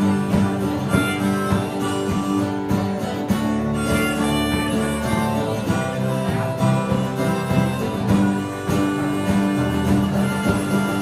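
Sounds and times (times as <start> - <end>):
bass guitar: 0.0 - 11.0
drums: 0.0 - 11.0
guitars: 0.0 - 11.0
harmonica long notes: 0.0 - 11.0.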